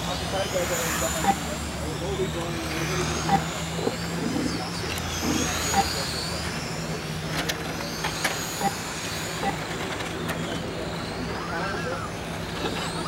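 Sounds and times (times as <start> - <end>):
electric model cars whining past: 0.0 - 13.0.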